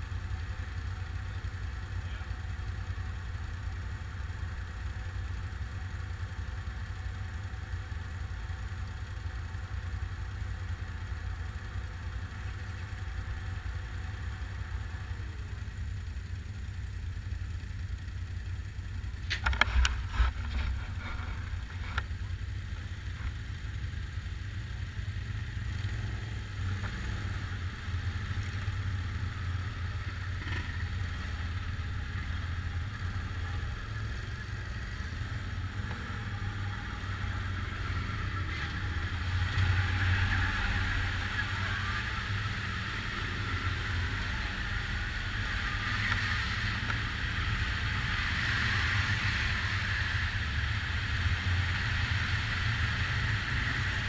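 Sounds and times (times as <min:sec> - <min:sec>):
atv engines running: 0:00.0 - 0:54.0.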